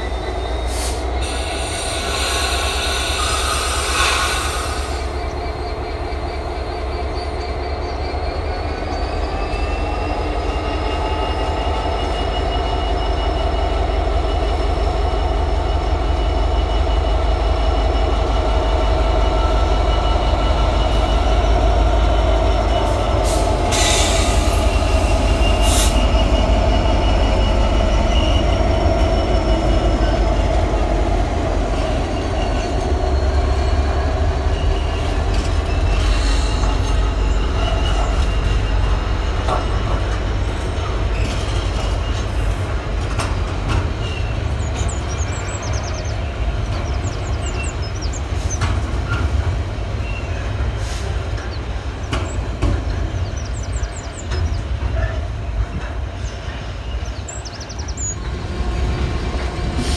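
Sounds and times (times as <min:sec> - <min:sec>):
diesel locomotive rumbling: 0:00.0 - 0:59.9
train wheels squealing: 0:00.0 - 0:59.9.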